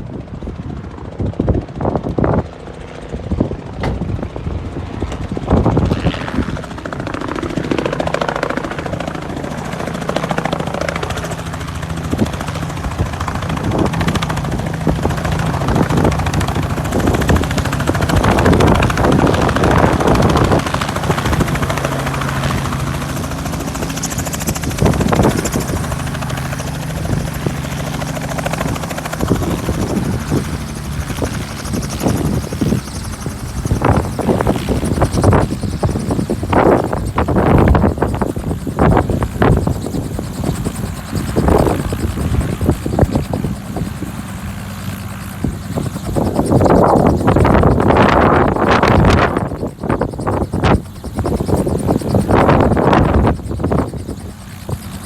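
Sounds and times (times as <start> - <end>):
helicopter running: 0.0 - 55.0.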